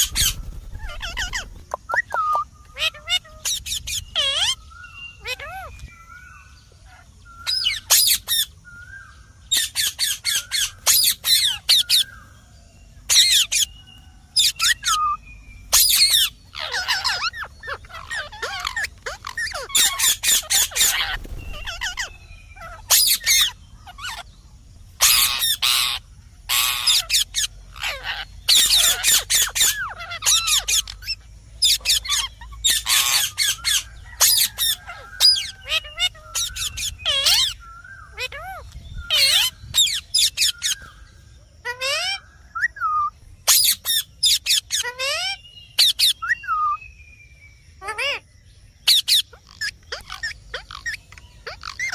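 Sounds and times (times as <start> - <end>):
parakeet screeching: 0.0 - 5.7, 6.8 - 8.6, 9.5 - 12.1, 13.1 - 13.8, 14.4 - 24.3, 25.0 - 40.9, 41.6 - 46.8, 47.8 - 48.2, 48.9 - 51.9.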